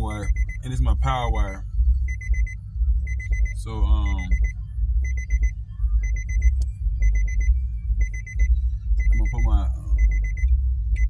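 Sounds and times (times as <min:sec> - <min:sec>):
car warning chime beeps: 0:00.0 - 0:11.0
low rumble: 0:00.0 - 0:11.0.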